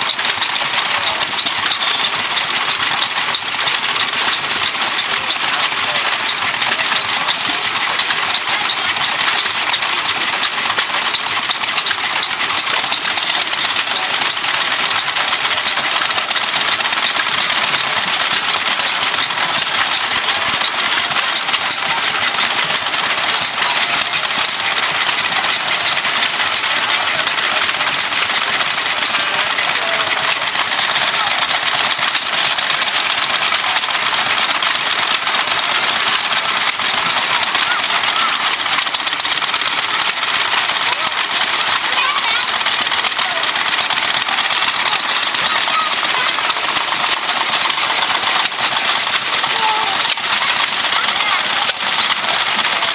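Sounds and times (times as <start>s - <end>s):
stationary engine clattering: 0.0s - 52.9s.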